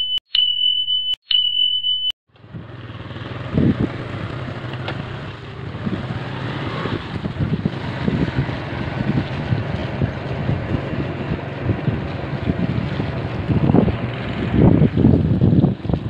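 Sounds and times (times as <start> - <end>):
motorcycle engine running: 2.3 - 16.0
wind buffeting microphone: 2.4 - 16.0.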